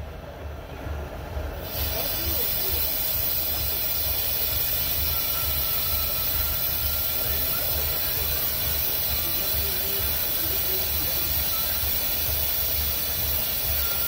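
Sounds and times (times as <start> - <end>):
gas torch flame hissing: 1.6 - 14.0.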